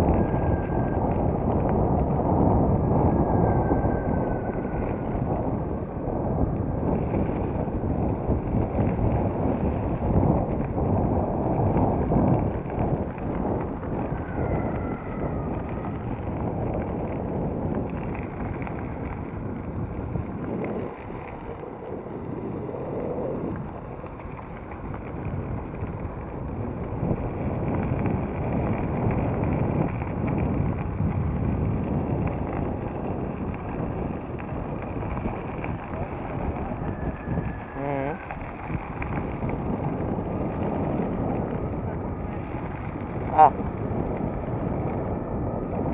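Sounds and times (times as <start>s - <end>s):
longboard tyres rolling on gravel: 0.0s - 45.9s
wind buffeting microphone: 0.0s - 45.9s.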